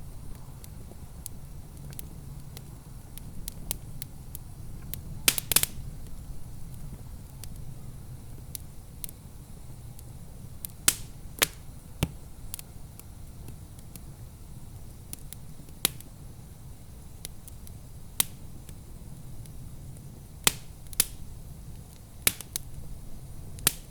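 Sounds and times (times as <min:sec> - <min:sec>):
wood fire crackling and popping: 0:00.0 - 0:23.9.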